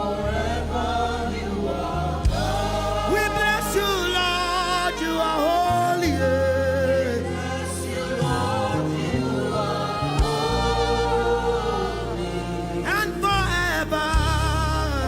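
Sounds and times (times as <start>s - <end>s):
sustained low chords: 0.0s - 15.0s
voices singing held notes: 0.0s - 15.0s.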